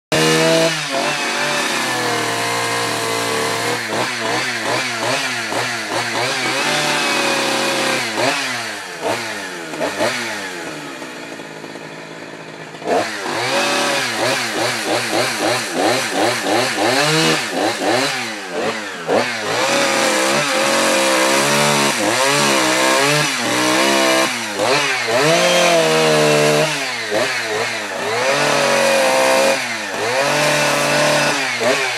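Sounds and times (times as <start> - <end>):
chainsaw revving cutting wood: 0.1 - 31.9.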